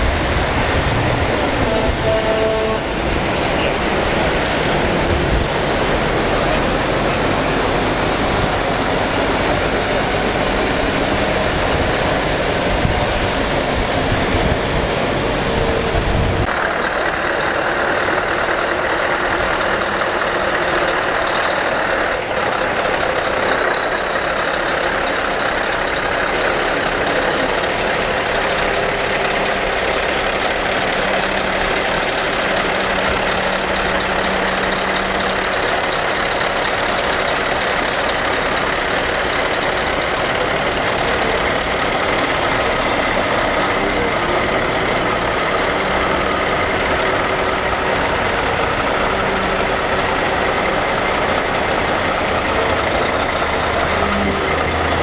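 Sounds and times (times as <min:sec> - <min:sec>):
truck diesel engines running: 0:00.0 - 0:55.0.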